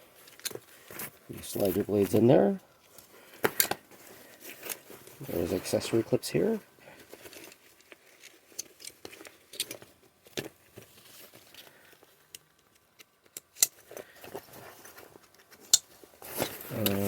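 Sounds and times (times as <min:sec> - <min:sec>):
fabric rustling: 0:00.0 - 0:12.0, 0:14.0 - 0:17.0.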